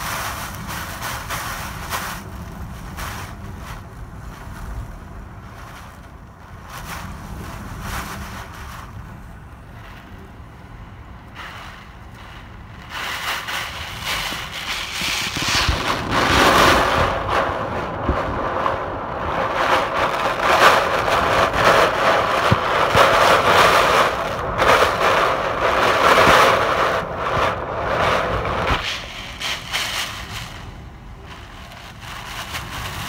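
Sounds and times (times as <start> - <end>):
driving rain: 0.0 - 33.0
strong wind gusting through trees: 0.0 - 33.0.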